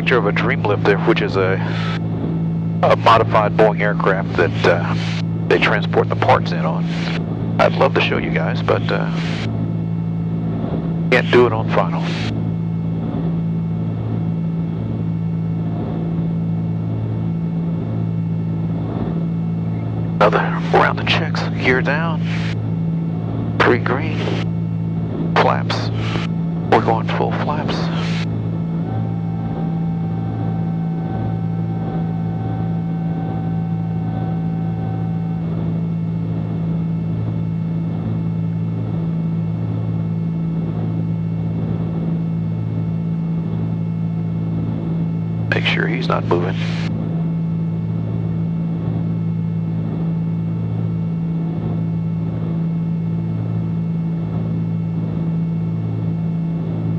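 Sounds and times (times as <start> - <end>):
twin propeller engines droning: 0.0 - 56.9.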